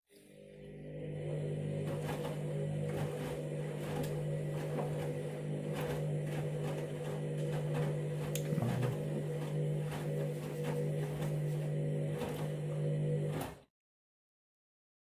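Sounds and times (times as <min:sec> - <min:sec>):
washing machine motor humming: 0:00.2 - 0:13.6.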